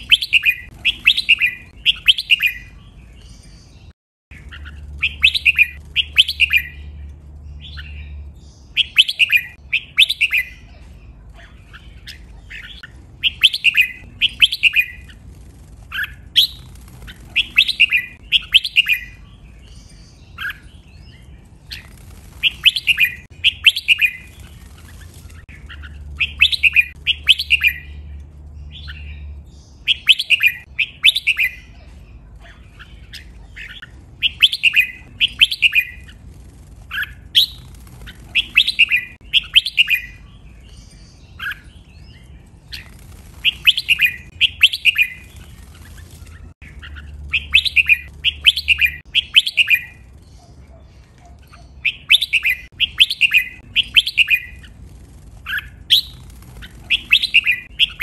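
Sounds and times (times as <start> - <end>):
bird singing whistled notes: 0.0 - 10.7, 11.7 - 15.2, 15.9 - 24.5, 25.4 - 31.7, 32.7 - 36.2, 36.9 - 45.5, 46.2 - 50.5, 51.5 - 54.7, 55.5 - 58.0.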